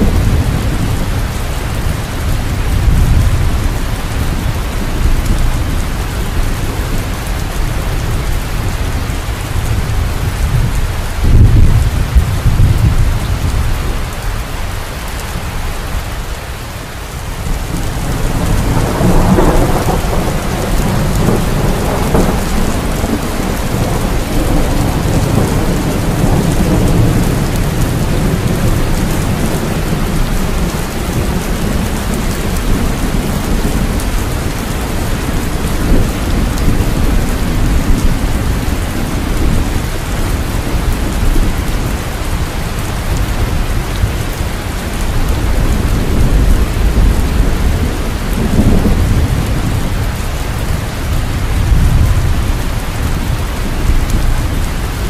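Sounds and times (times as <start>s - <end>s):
rolling thunder rumble: 0.0s - 16.2s, 17.2s - 55.0s
steady rain: 0.0s - 55.0s.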